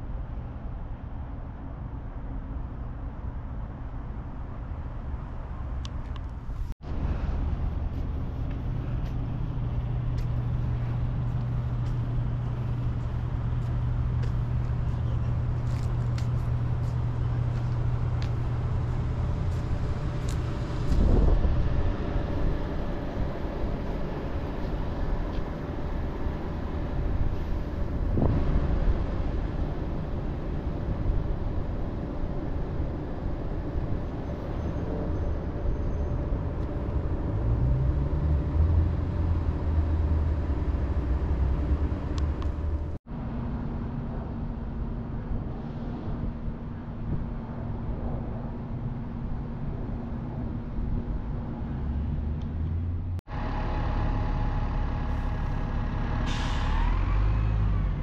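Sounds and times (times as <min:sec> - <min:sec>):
low hum: 0:00.0 - 0:58.0
outdoor background rumble: 0:00.0 - 0:58.0.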